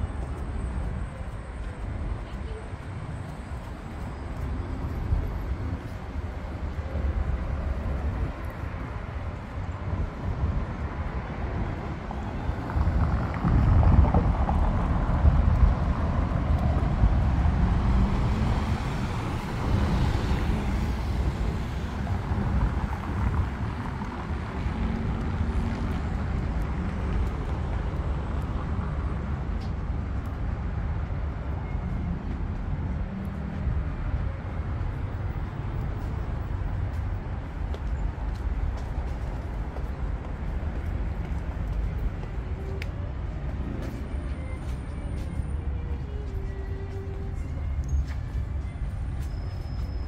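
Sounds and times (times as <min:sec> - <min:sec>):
passing cars hum: 0:00.0 - 0:50.0.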